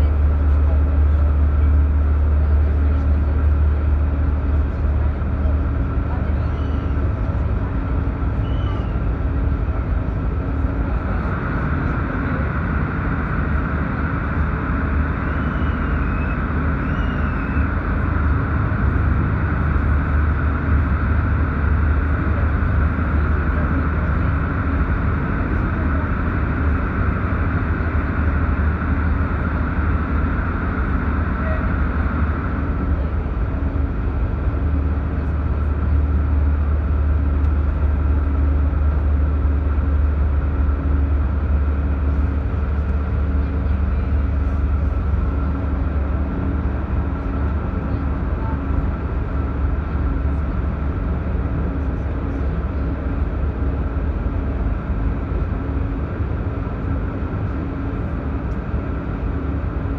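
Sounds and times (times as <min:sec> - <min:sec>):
higher steady hum: 0:00.0 - 0:59.9
train wheels rumbling on rails: 0:00.0 - 0:59.9.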